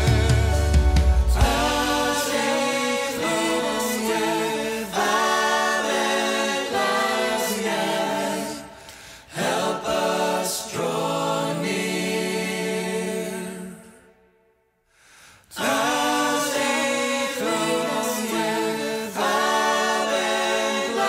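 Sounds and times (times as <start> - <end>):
voices singing a slow worship song: 0.0 - 21.0.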